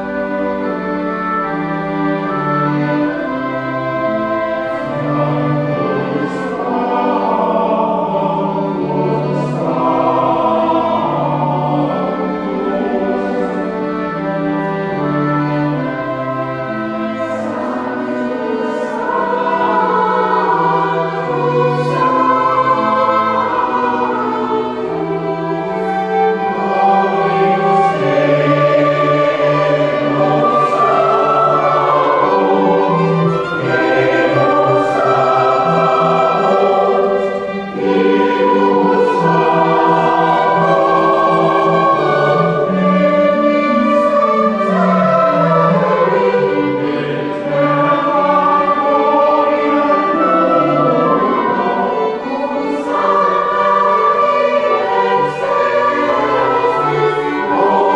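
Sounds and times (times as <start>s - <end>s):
church choir singing: 0.0s - 57.9s.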